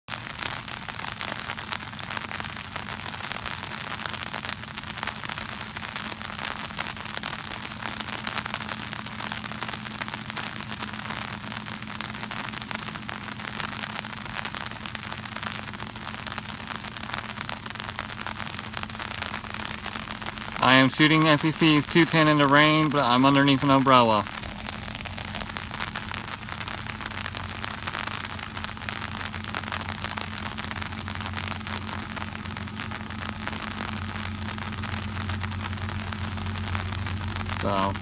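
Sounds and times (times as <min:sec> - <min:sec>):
rain pattering on an umbrella: 0:00.0 - 0:38.0
faint low hum: 0:00.2 - 0:38.0.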